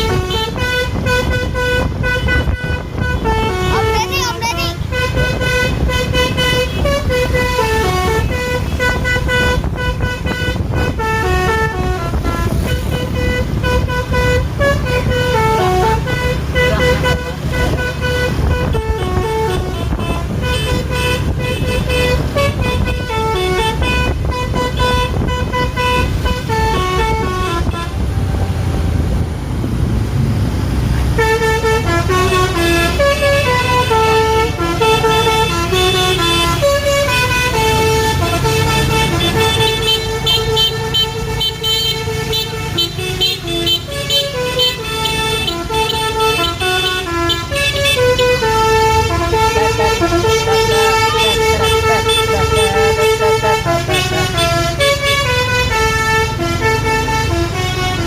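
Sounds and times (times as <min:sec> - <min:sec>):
bus musical horn tune: 0:00.0 - 0:28.2, 0:31.1 - 0:58.0
bus engine running: 0:00.0 - 0:58.0.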